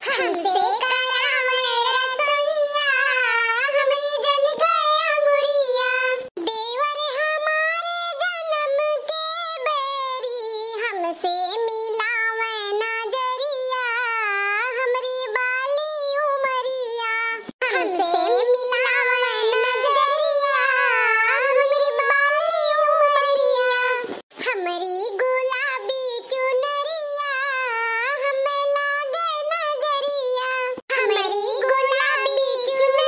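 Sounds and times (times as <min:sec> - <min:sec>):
high cartoon-style female singing: 0:00.0 - 0:33.0.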